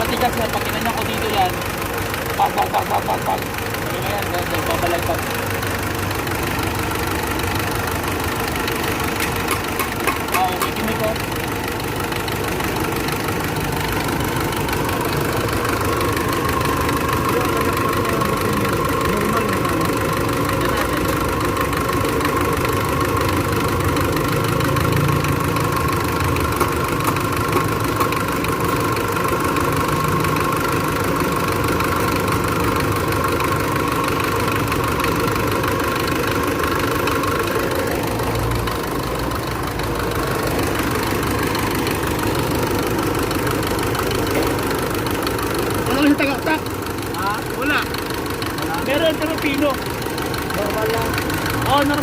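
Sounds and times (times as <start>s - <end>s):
engine idling with light tick: 0.0s - 52.0s.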